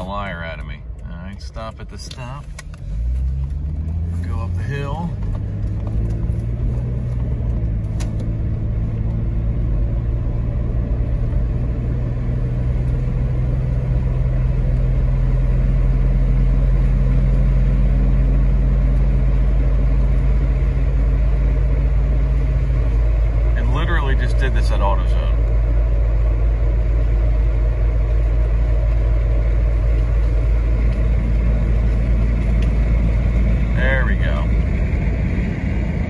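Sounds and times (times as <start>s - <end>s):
car engine and road hum: 0.0s - 36.0s.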